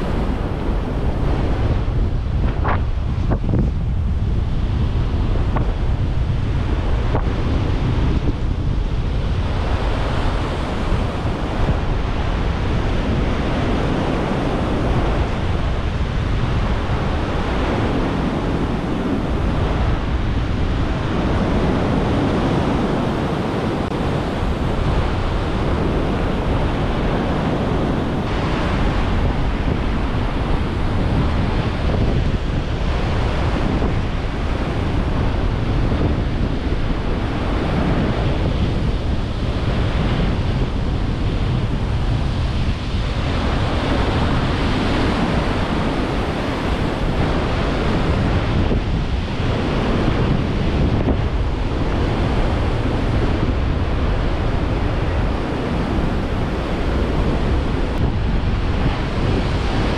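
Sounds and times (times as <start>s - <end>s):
rough surf: 0.0s - 59.9s
wind buffeting microphone: 0.0s - 59.9s.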